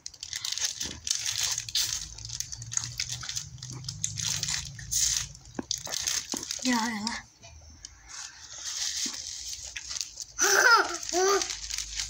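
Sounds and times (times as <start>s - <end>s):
crunching and chewing: 0.0s - 6.7s, 7.8s - 12.0s.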